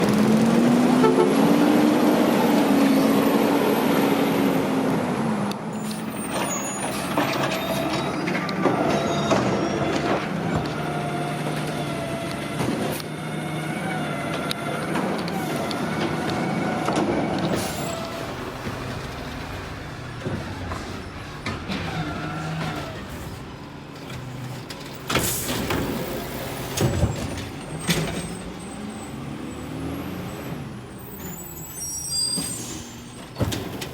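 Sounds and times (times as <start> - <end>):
large truck engine running: 4.6 - 32.0.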